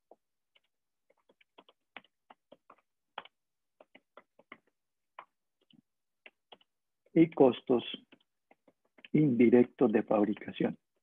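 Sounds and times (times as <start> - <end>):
computer keyboard typing: 0.5 - 11.0.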